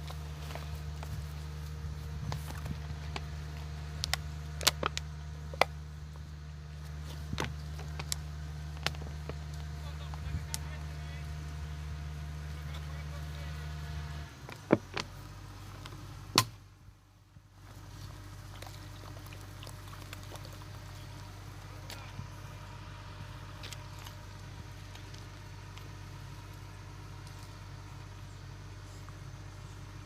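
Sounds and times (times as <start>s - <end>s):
diesel machine humming: 0.0s - 30.0s.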